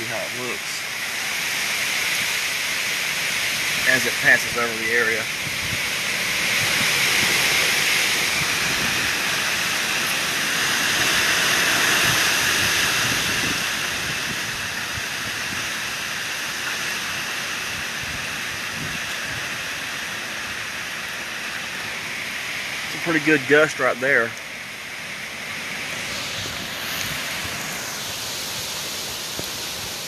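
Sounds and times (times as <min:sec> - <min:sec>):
low wind buffeting: 0:00.0 - 0:21.2, 0:24.4 - 0:30.0
heavy rain pouring: 0:00.0 - 0:30.0.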